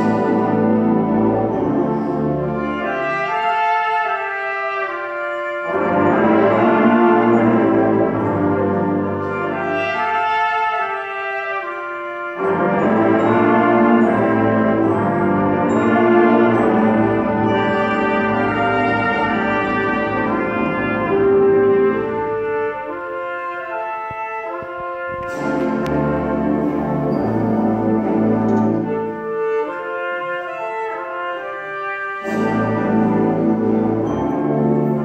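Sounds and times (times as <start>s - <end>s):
concert band playing: 0.0s - 35.0s.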